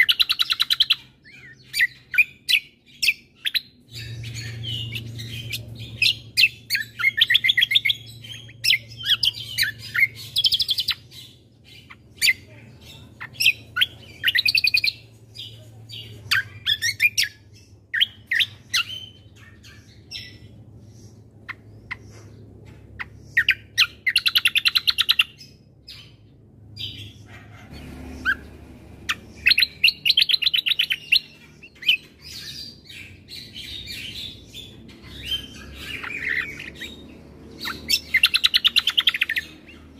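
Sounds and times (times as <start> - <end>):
songbird chattering trills: 0.0 - 39.9.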